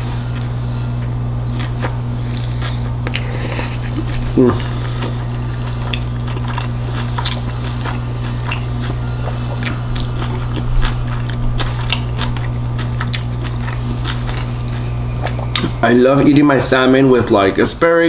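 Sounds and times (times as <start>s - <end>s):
low electrical hum: 0.0s - 18.0s
chewing with wet mouth smacks: 0.3s - 15.8s.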